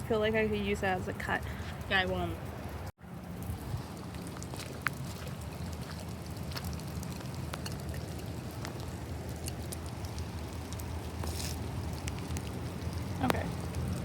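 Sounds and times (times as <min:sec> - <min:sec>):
steady low rumble: 0:00.0 - 0:14.0
raindrops ticking close by: 0:00.2 - 0:14.0
rain falling: 0:00.6 - 0:14.0.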